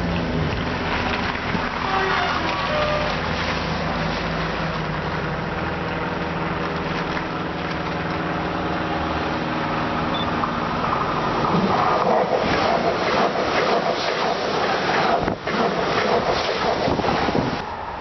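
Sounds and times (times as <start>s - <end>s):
train motors and wheels humming: 1.8s - 18.0s.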